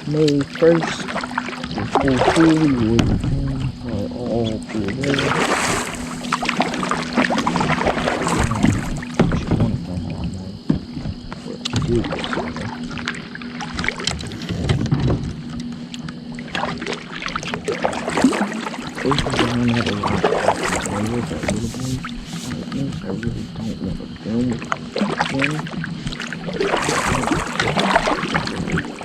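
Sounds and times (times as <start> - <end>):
water splashing around kayak: 0.0 - 29.0.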